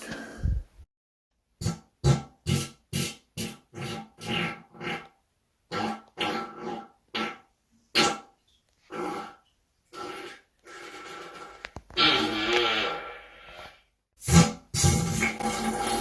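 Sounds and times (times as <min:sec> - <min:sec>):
person farting: 0:01.6 - 0:16.0.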